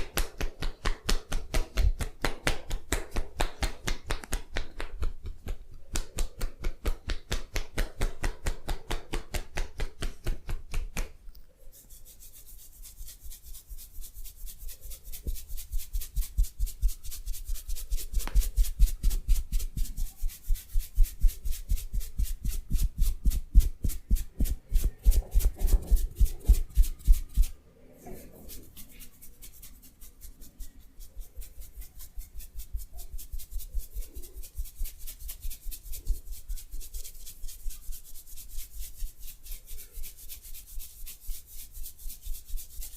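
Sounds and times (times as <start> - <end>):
hands rubbing and slapping skin: 0.0 - 27.6, 28.2 - 42.9.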